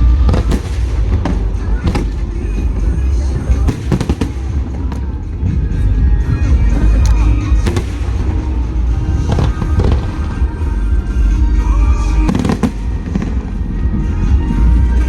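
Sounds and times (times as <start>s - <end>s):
fireworks bangs and crackles: 0.0s - 15.0s
fireworks booming: 0.0s - 15.0s
music: 0.0s - 15.0s.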